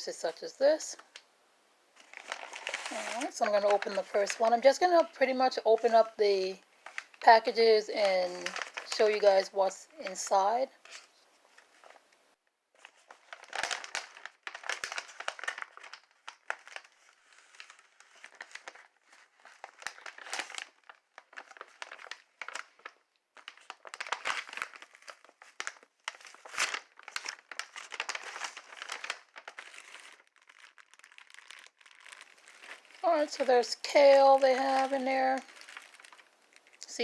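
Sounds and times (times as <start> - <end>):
packaging crinkling and rustling: 2.0 - 12.0, 12.8 - 37.0.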